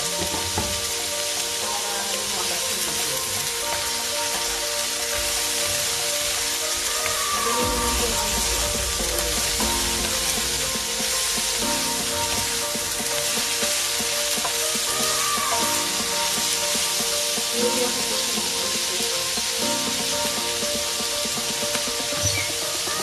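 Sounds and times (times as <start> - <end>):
background music: 0.0 - 23.0
food sizzling in frying pan: 0.0 - 23.0.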